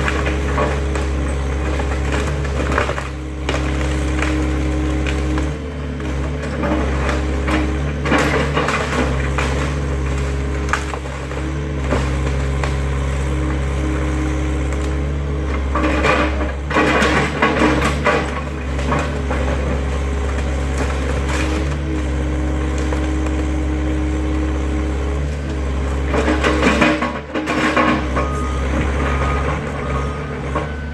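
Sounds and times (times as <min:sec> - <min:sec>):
excavator diesel engine running: 0:00.0 - 0:30.9
wood cracking and splintering: 0:00.0 - 0:30.9.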